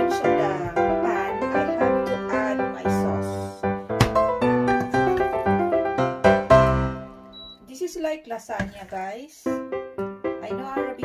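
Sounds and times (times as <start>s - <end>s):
piano melody: 0.0s - 7.7s, 9.5s - 11.0s.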